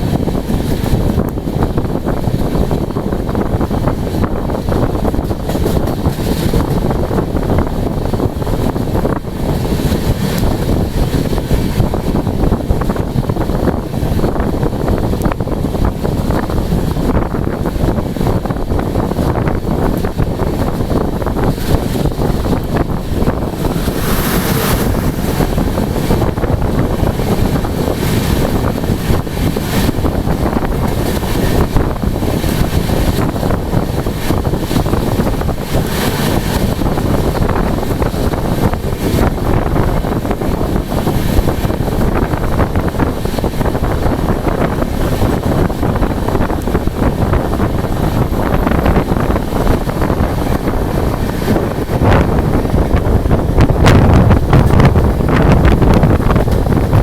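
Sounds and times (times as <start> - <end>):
heavy rain: 0.0 - 57.0
train running at full speed: 0.0 - 57.0
wind buffeting microphone: 0.0 - 57.0.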